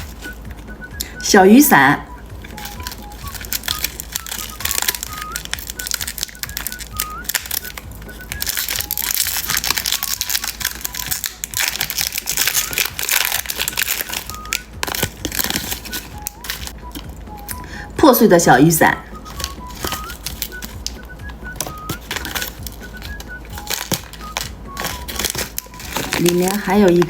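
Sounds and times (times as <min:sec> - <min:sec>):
candy wrapper crinkling: 0:00.0 - 0:01.2, 0:02.1 - 0:17.8, 0:19.1 - 0:27.0.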